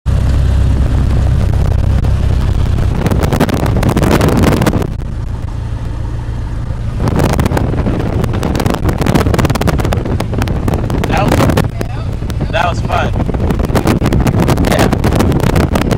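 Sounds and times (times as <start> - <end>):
airplane engine and propeller droning: 0.1 - 15.9
wind noise on microphone: 0.1 - 15.9.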